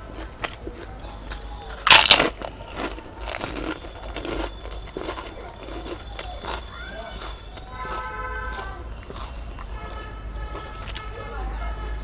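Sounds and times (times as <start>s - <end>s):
crunchy bite: 0.0s - 10.0s
chewing and crackling: 0.0s - 11.2s.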